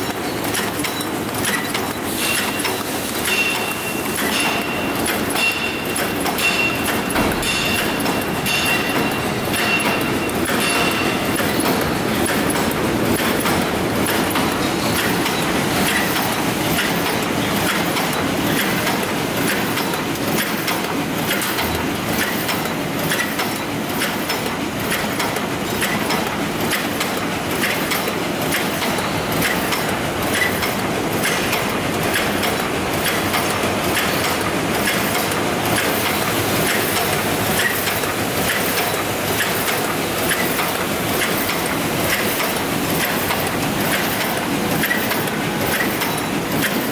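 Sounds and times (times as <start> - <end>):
machine clattering: 0.0 - 46.9
machine clicking: 0.0 - 46.9.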